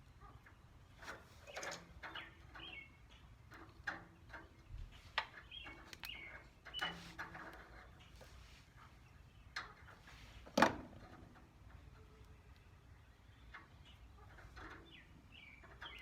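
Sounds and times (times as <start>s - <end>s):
small birds chirping: 0.0s - 10.6s, 11.3s - 16.0s.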